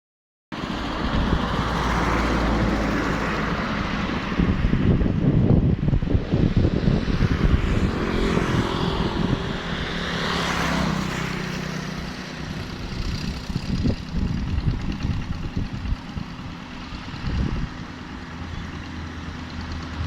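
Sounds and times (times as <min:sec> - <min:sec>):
small engine running: 0:00.6 - 0:20.0.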